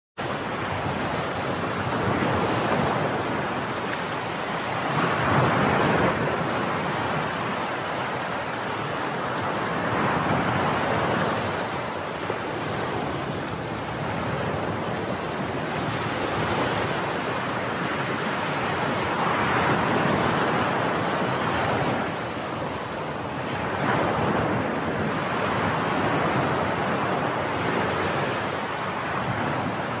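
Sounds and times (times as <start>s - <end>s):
sea waves washing: 0.2s - 30.0s
wind buffeting microphone: 0.2s - 30.0s.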